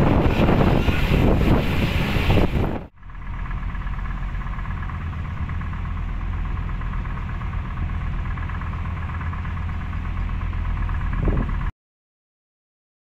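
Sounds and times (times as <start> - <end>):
deep engine hum: 0.0 - 11.7.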